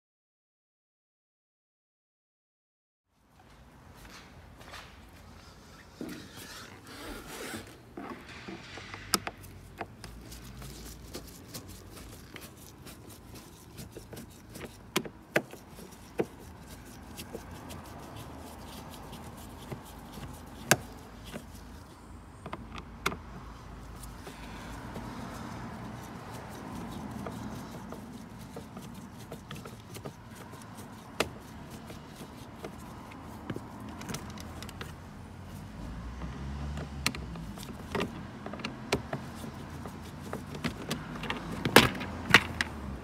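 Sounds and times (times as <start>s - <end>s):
screwdriver scraping and clicking: 6.0s - 23.2s, 23.8s - 35.6s, 36.8s - 42.8s.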